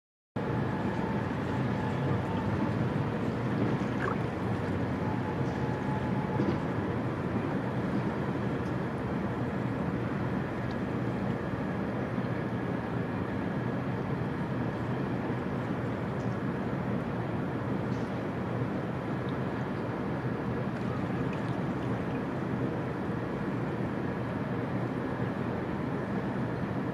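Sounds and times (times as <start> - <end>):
faint hum: 0.4 - 26.9
low outdoor rumble: 0.4 - 26.9.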